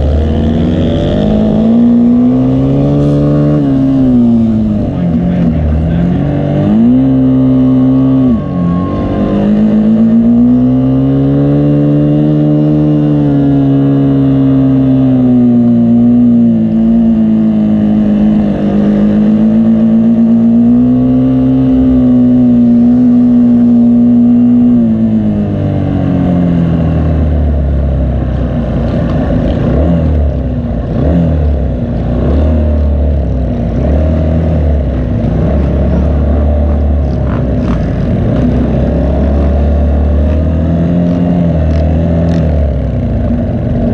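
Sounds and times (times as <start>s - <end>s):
racing engine revving: 0.0s - 43.9s.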